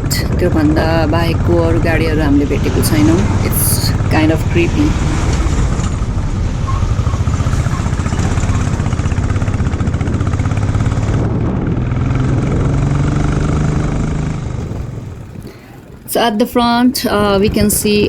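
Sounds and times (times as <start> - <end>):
motorcycle engine running: 0.0 - 18.0
road noise rushing: 0.0 - 18.0.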